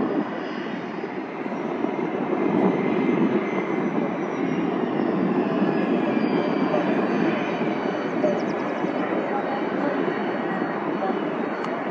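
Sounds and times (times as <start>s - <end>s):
high turbine whine: 0.0s - 11.9s
jet engines roaring: 0.0s - 11.9s.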